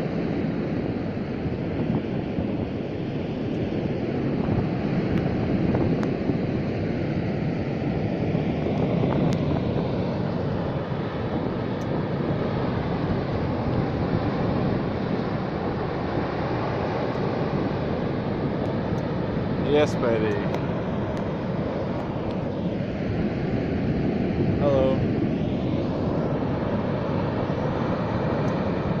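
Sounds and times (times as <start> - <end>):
water rushing from dam outlet: 0.0 - 29.0.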